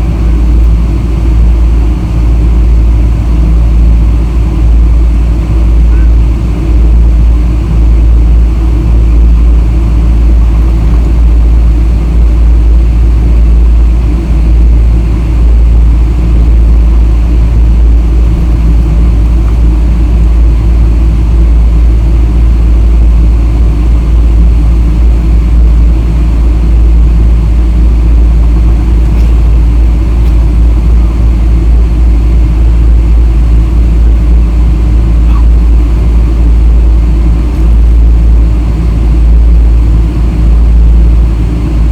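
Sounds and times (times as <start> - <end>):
deep jet engine cabin rumble: 0.0 - 41.9.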